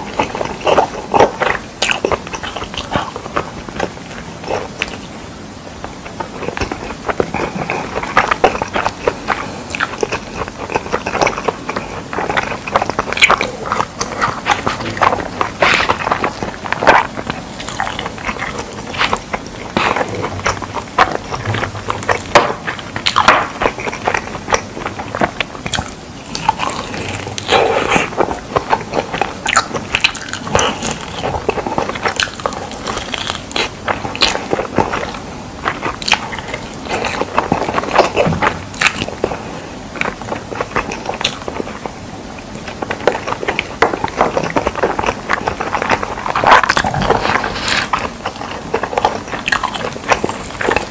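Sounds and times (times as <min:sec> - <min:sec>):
crunchy biting and chewing: 0:00.0 - 0:50.9.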